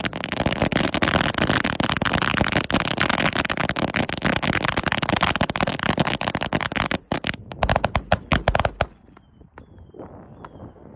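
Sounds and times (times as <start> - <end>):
firecrackers crackling: 0.0 - 9.3.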